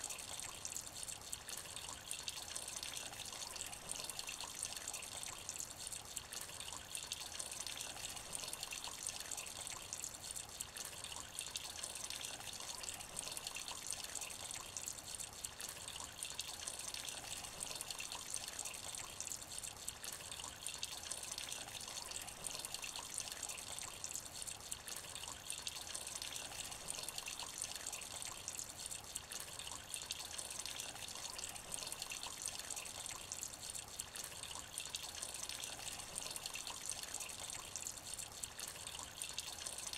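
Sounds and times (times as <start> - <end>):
light rain splashing in puddle: 0.0 - 39.9.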